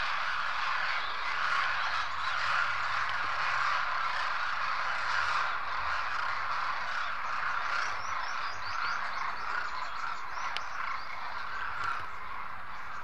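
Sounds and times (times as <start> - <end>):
cranes croaking calls: 0.0 - 13.0.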